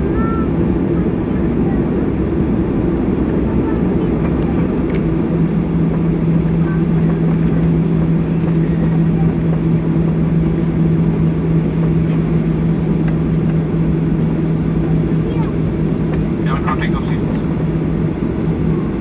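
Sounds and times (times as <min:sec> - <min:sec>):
jet airliner cabin drone: 0:00.0 - 0:19.0
steady low hum: 0:00.0 - 0:19.0.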